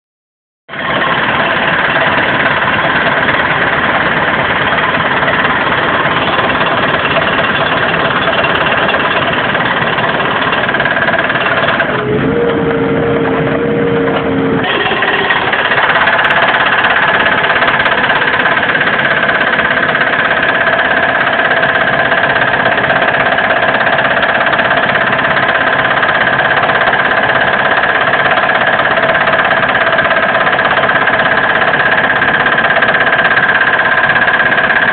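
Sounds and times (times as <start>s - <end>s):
diesel engine running: 0.7s - 34.9s
hydraulic breaker hammering concrete: 0.7s - 34.9s.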